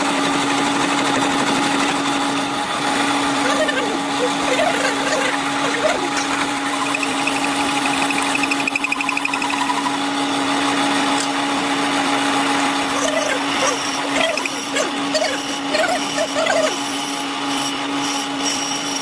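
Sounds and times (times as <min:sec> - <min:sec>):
fast pulsing whine: 0:00.0 - 0:18.6
workshop machine humming: 0:00.0 - 0:19.0.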